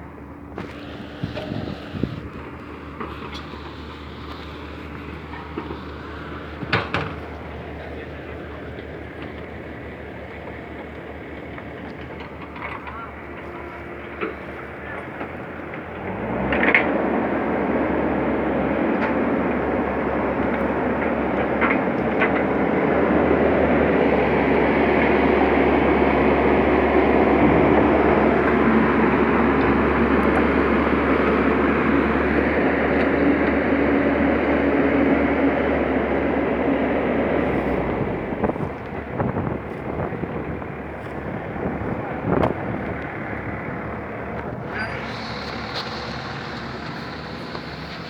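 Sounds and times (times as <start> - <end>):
excavator diesel engine revving: 0.0 - 48.0.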